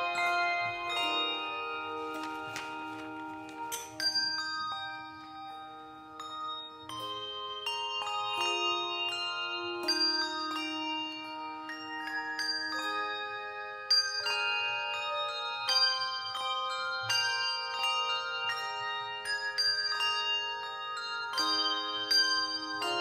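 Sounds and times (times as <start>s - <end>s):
handbell choir ringing chords: 0.0s - 23.0s.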